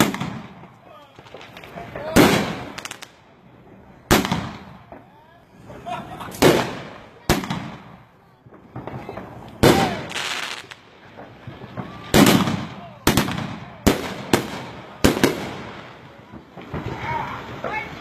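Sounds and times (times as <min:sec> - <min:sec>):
firework booms with echo: 0:00.0 - 0:03.2, 0:03.9 - 0:18.0
firework crackling hiss: 0:00.0 - 0:18.0.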